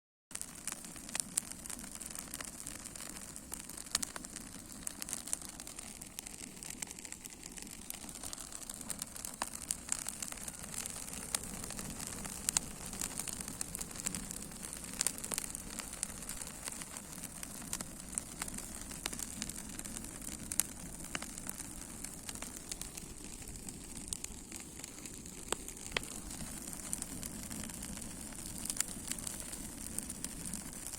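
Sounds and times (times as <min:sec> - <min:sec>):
sharp pops from fire: 0:00.3 - 0:30.9
wood fire crackling: 0:00.3 - 0:30.9.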